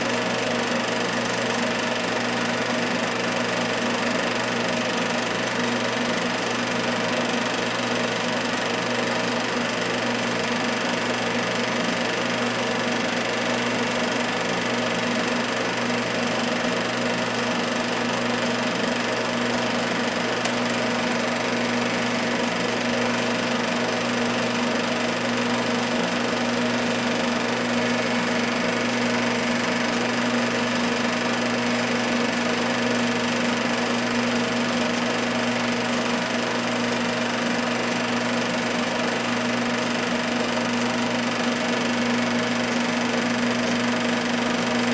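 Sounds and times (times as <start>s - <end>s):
film projector whirring and clattering: 0.0s - 44.9s.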